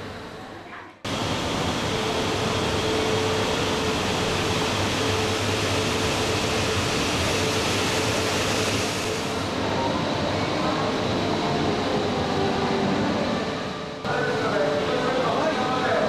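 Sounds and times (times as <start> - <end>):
rushing hum of machinery: 0.0 - 16.0.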